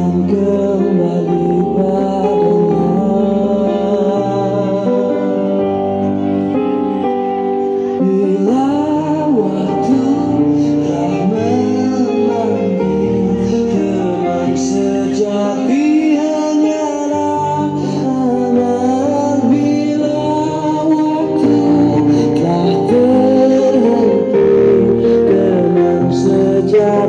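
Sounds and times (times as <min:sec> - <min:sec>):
person singing with instruments: 0:00.0 - 0:27.0.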